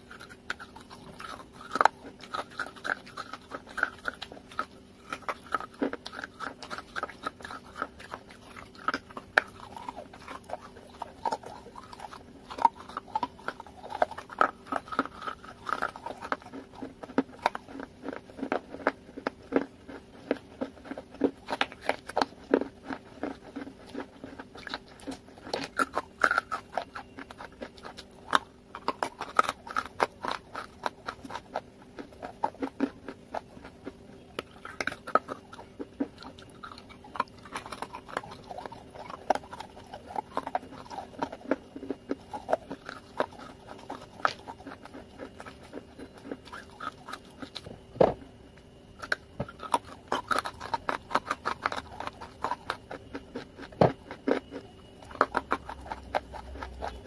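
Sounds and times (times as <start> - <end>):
crunching and chewing: 0.0 - 57.0
faint steady hum: 0.0 - 57.0.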